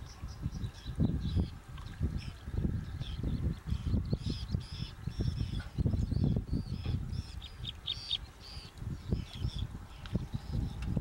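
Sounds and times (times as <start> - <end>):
terns calling: 0.0 - 10.9.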